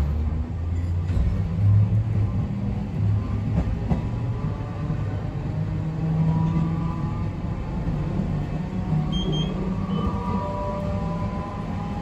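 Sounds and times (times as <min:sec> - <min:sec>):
tram motor hum and whine: 0:00.0 - 0:12.0
wheels rumbling on rails: 0:00.0 - 0:12.0.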